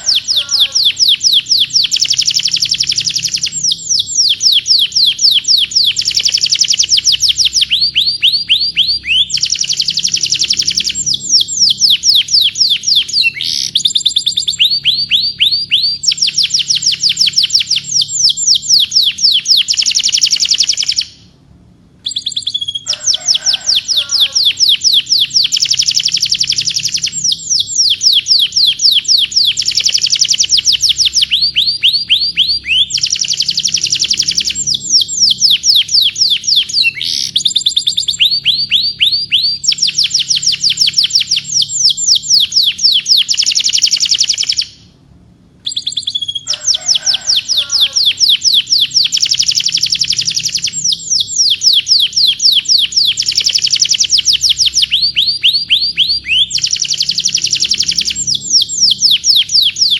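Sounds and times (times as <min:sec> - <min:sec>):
canary singing rapid trills: 0:00.0 - 0:21.3, 0:22.0 - 0:44.9, 0:45.6 - 0:59.9.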